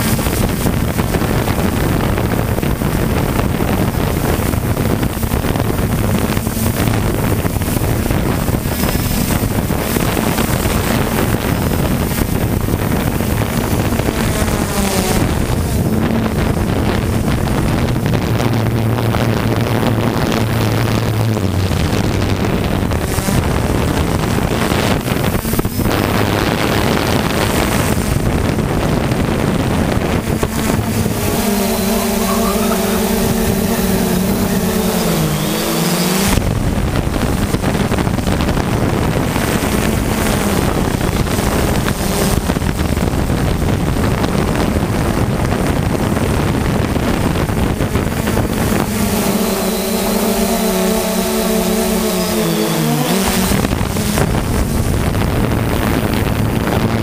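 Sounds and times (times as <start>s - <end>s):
drone propellers buzzing: 0.0s - 57.0s
whining hum shifting pitch: 0.0s - 57.0s
wind rushing over microphone: 0.0s - 57.0s.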